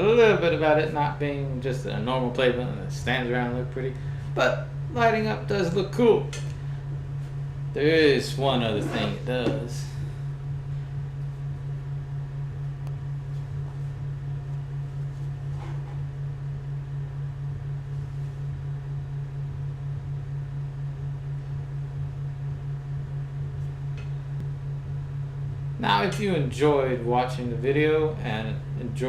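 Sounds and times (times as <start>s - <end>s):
small electric motor pulsing hum: 0.0s - 29.0s.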